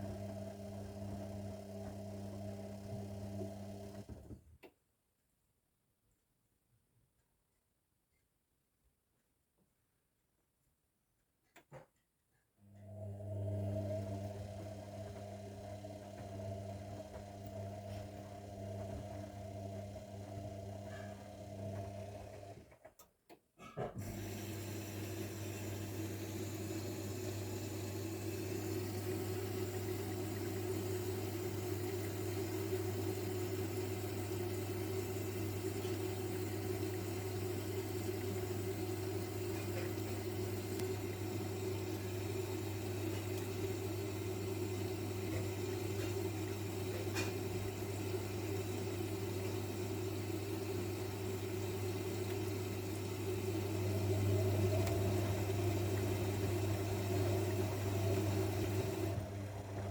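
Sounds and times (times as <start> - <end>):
washing machine humming: 0.0 - 4.4, 12.7 - 22.9, 23.9 - 59.9.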